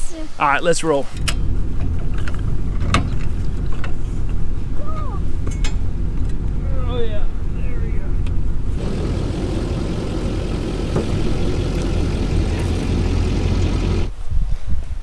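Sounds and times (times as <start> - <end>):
vehicle engine low rumble: 1.4 - 14.1.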